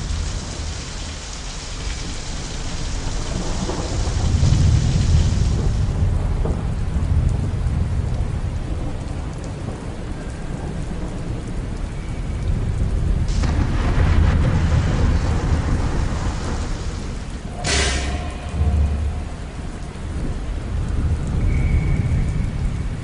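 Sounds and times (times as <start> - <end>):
steady rain: 0.0 - 23.0
low rumbling thunder: 2.0 - 23.0.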